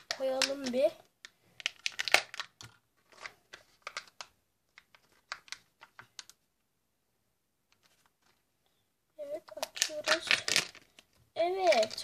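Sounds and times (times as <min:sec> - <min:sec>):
plastic clicks and crinkles: 0:00.0 - 0:06.4, 0:07.7 - 0:08.5, 0:09.4 - 0:12.0.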